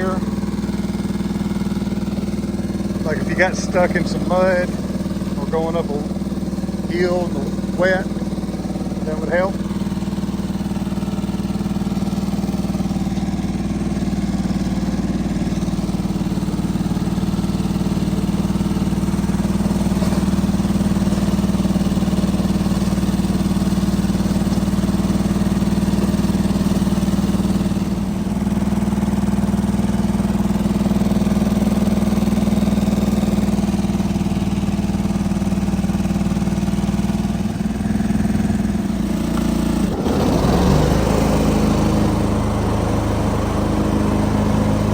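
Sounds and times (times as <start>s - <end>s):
garden tractor engine running: 0.0s - 44.9s.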